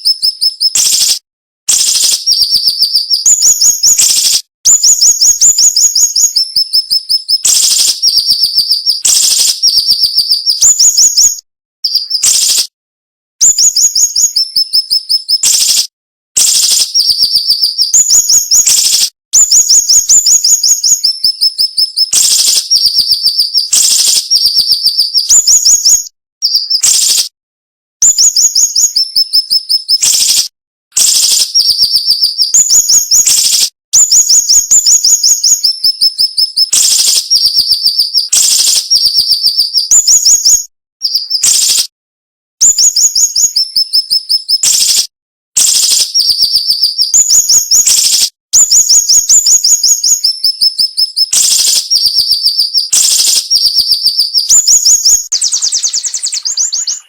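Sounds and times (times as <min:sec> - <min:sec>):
bird singing sharp piercing notes: 0:00.0 - 0:12.8, 0:13.4 - 0:27.3, 0:28.0 - 0:41.9, 0:42.6 - 0:57.0.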